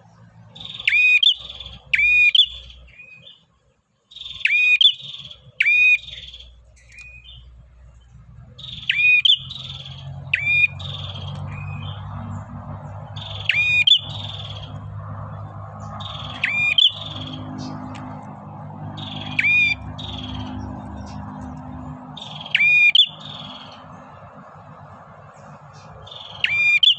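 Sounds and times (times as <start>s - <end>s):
bird singing buzzy trills: 0.0s - 26.9s.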